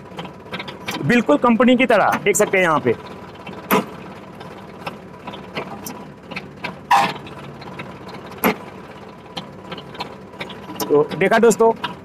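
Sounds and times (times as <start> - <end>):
tractor diesel engine idling: 0.0 - 12.0
metal clanks and knocks: 2.0 - 12.0.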